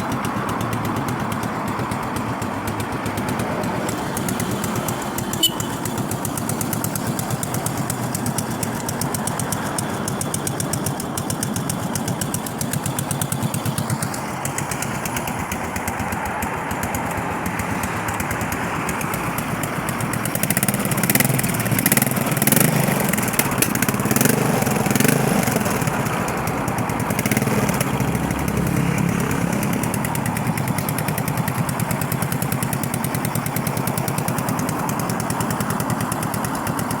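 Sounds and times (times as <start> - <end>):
motorcycle engine revving and idling: 0.0 - 37.0.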